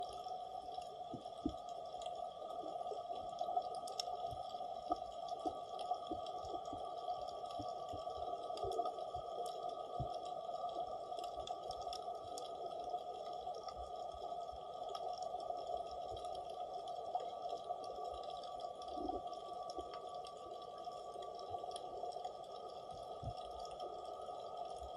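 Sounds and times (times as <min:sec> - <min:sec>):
faint clicks and crackles: 0:00.0 - 0:24.9
steady underwater hum: 0:00.0 - 0:24.9.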